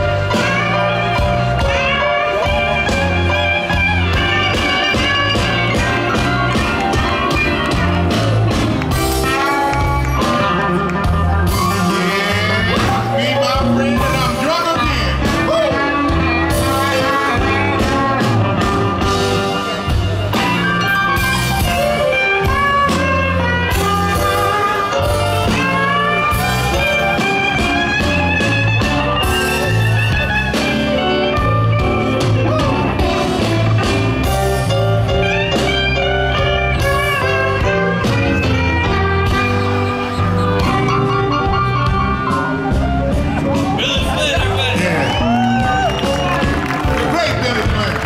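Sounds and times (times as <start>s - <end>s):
amplified harmonica bending notes: 0.0s - 47.1s
electric blues band playing: 0.0s - 48.0s.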